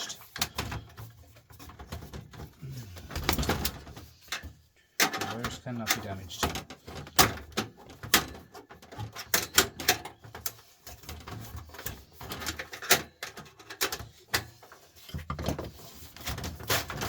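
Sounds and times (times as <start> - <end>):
metal and plastic parts rattling: 0.0 - 17.0.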